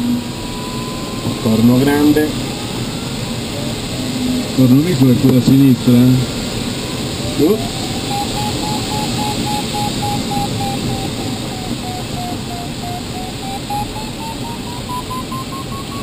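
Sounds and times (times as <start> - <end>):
variometer beeping: 0.0 - 5.9, 6.7 - 16.0
air rushing past cockpit: 0.0 - 16.0.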